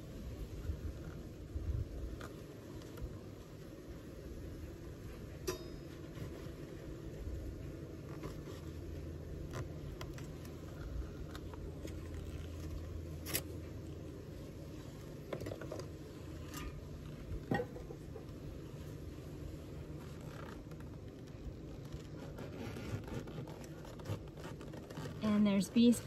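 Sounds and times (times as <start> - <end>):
bee colony humming: 0.0 - 26.0.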